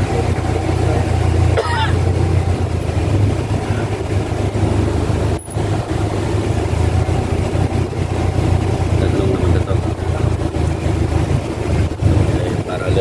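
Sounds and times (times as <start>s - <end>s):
road noise: 0.0s - 13.0s
van engine hum: 0.0s - 13.0s.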